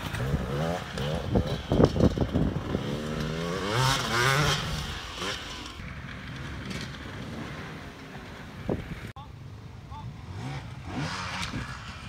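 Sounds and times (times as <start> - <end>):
dirt bike engine revving: 0.0 - 9.0, 10.2 - 12.0.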